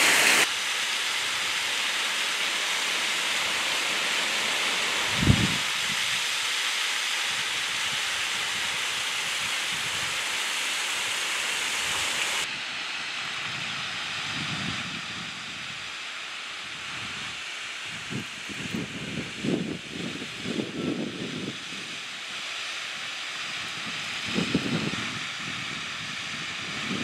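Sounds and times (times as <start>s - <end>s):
waterfalls rushing over rock: 0.0s - 27.0s.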